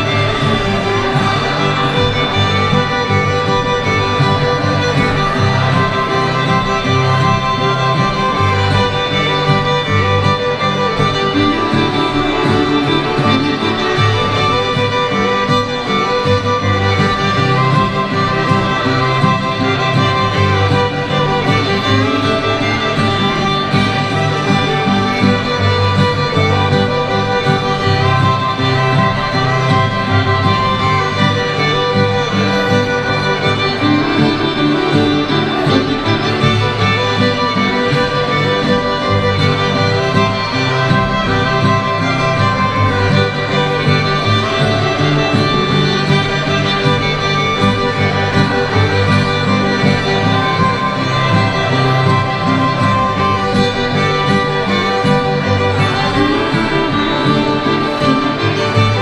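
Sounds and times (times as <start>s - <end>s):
fiddles playing: 0.0s - 59.0s.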